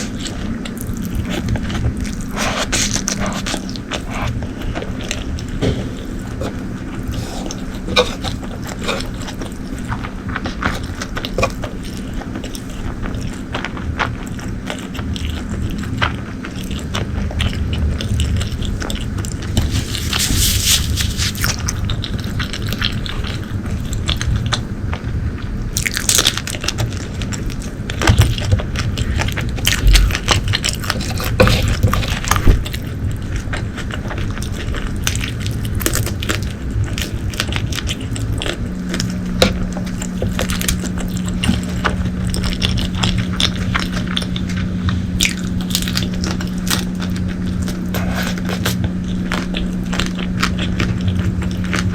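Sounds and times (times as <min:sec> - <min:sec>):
chewing and crunching: 0:00.0 - 0:51.9.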